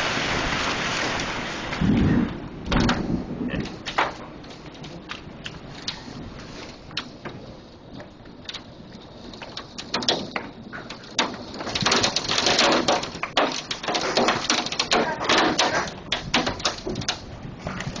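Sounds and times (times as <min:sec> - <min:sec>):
hailstones clattering on windows: 0:00.0 - 0:18.0.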